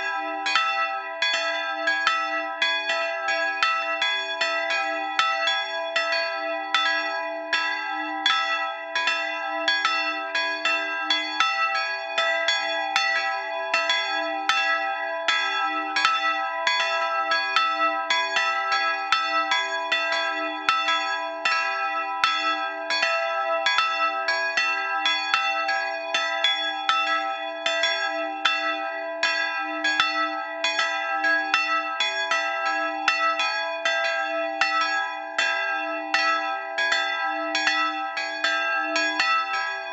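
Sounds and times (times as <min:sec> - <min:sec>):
bronze bells ringing: 0:00.0 - 0:39.9.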